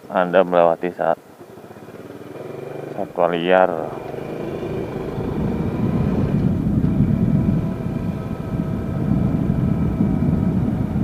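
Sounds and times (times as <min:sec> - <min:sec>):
motorcycle engine running: 0:01.4 - 0:11.0.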